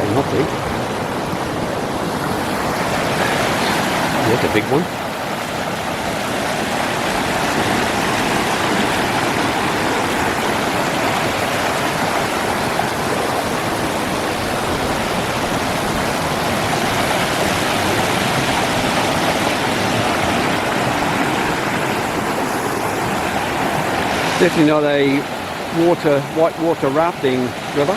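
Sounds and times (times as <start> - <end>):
waterfall pouring over rocks: 0.0 - 27.9.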